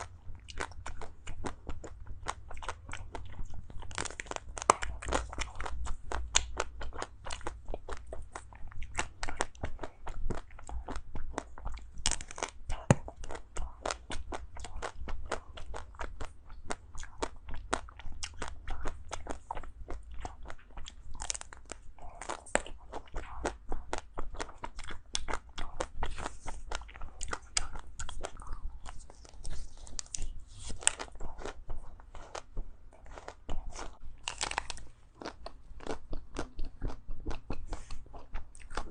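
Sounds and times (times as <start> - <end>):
chewing crunchy ice cream: 0.0 - 38.9.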